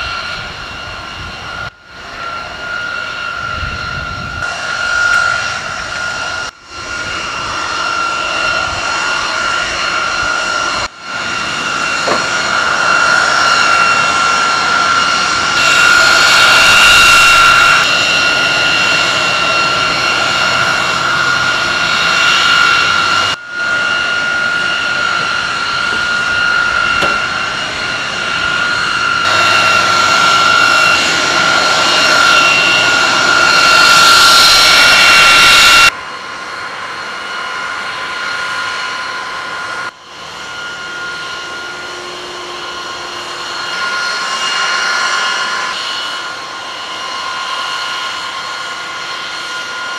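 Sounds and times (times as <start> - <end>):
jet turbine running with whine: 0.0 - 49.9.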